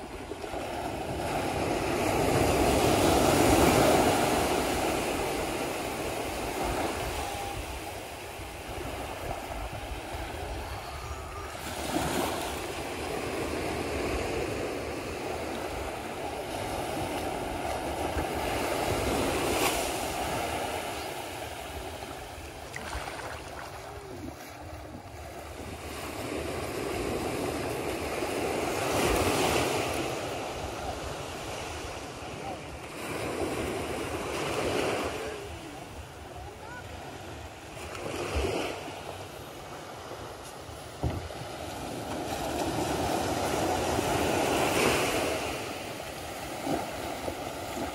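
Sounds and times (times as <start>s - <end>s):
surf washing onto sand: 0.0s - 47.9s.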